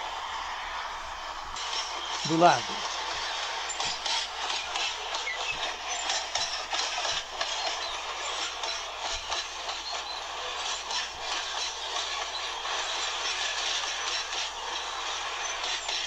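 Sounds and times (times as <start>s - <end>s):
wheels rushing on rail: 0.0s - 16.0s
clicks and clatter: 2.8s - 16.0s.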